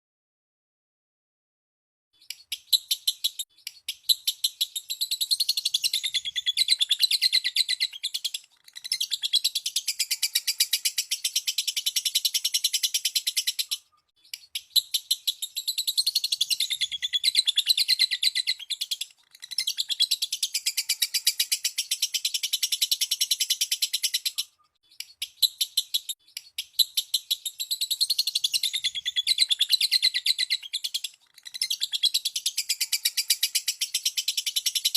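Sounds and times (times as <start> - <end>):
lovebird chattering chirps: 2.2 - 34.9.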